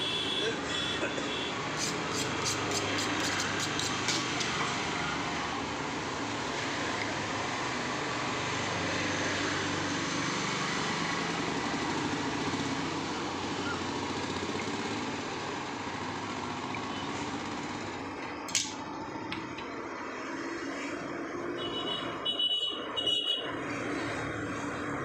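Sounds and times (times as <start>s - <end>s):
street traffic hum: 0.0s - 25.0s.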